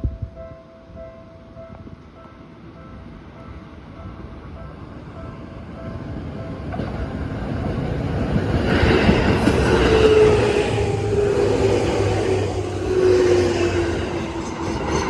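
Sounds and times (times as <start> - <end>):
electric train passing: 0.4 - 15.0.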